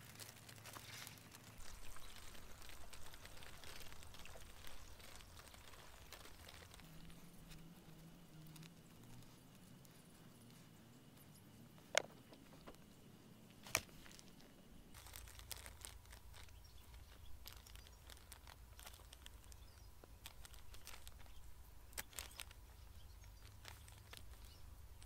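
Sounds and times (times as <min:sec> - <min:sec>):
plastic bag crinkling: 0:00.0 - 0:12.9, 0:13.6 - 0:25.0
soil crumbling: 0:00.0 - 0:25.0
low steady rumble: 0:01.5 - 0:25.0.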